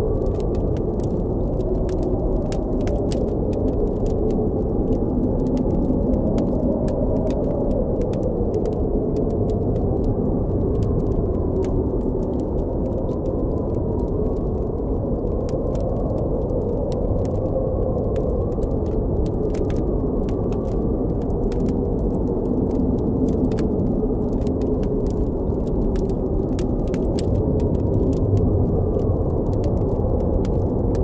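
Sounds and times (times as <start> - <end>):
campfire crackling: 0.0 - 31.0
howling blizzard wind: 0.0 - 31.0.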